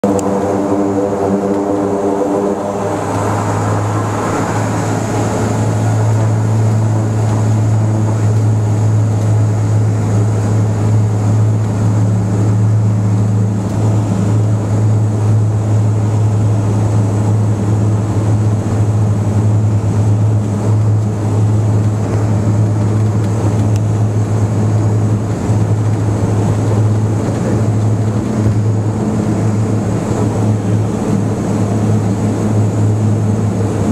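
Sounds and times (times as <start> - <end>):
high turbine whine: 0.0 - 33.9
propeller drone: 0.0 - 33.9.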